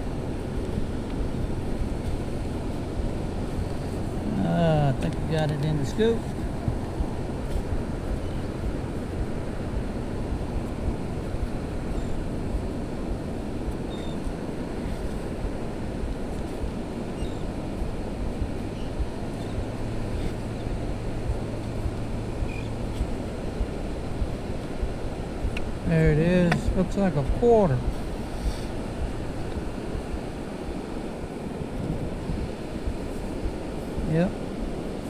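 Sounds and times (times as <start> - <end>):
wind on microphone: 0.0 - 35.0.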